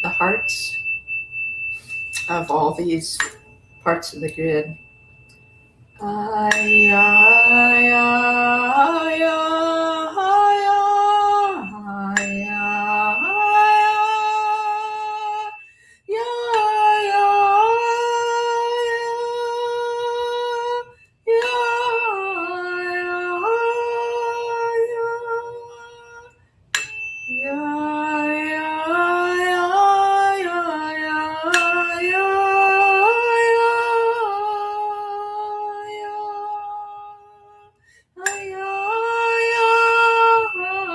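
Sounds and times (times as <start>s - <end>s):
tuning fork ringing: 0.0s - 40.9s.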